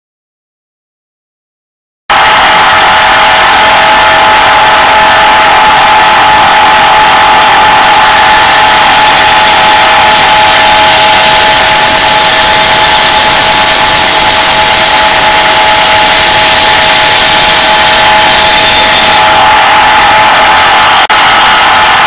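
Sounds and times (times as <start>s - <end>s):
blade grinding on belt: 2.1s - 21.1s
belt grinder whining: 2.1s - 22.0s.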